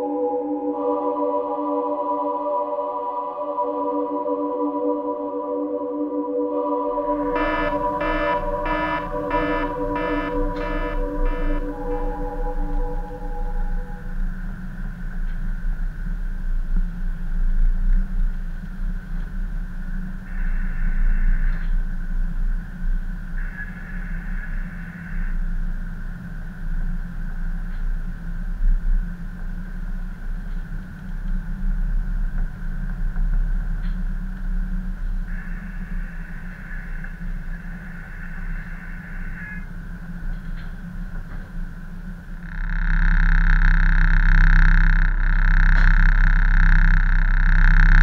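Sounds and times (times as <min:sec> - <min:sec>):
diesel engines low rumble: 0:06.9 - 0:48.0.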